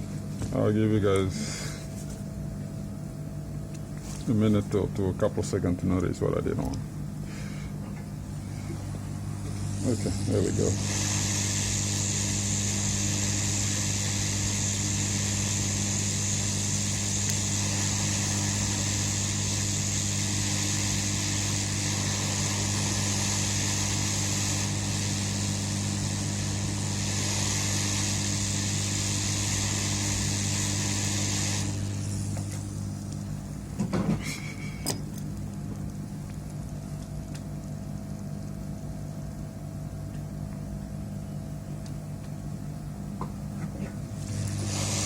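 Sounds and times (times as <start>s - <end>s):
machine humming and hissing: 0.0s - 45.0s.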